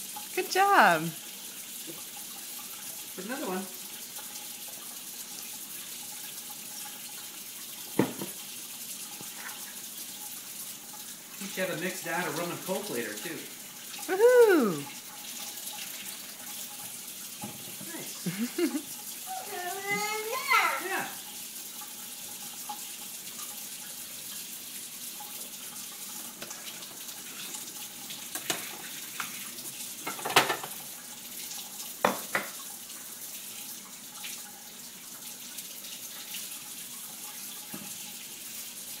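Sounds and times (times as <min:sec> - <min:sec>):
faucet water splashing into sink: 0:00.0 - 0:39.0.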